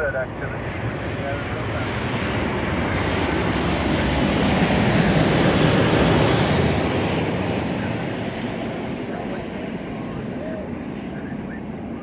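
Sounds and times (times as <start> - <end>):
aircraft engine roar passing: 0.0 - 12.0.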